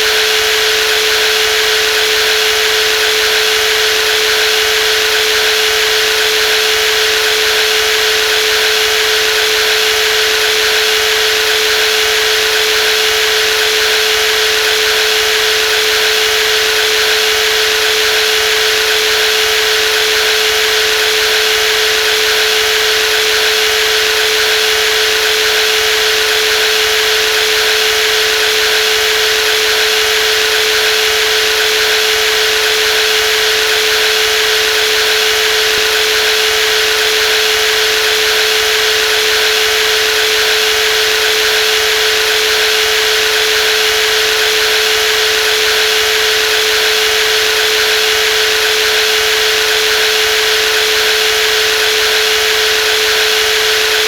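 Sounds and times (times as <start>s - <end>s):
jigsaw running: 0.0s - 54.0s.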